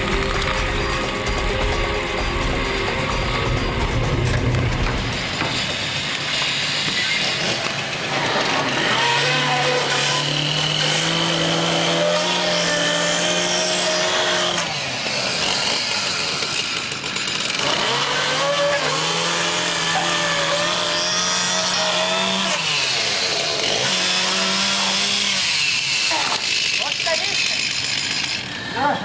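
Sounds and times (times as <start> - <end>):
two-stroke chainsaw running: 0.0 - 29.0.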